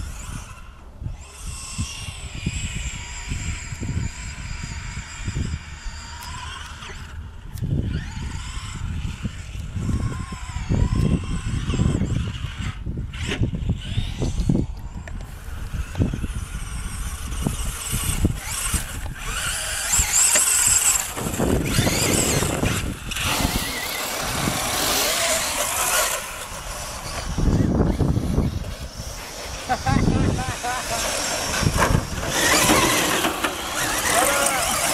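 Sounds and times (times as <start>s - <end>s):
electric rc car motors whining: 0.0s - 34.9s.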